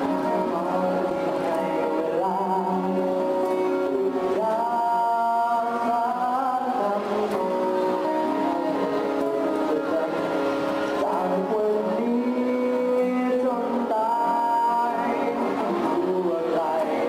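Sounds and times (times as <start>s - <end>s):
acoustic guitar: 0.0s - 17.0s
boys singing: 0.0s - 17.0s.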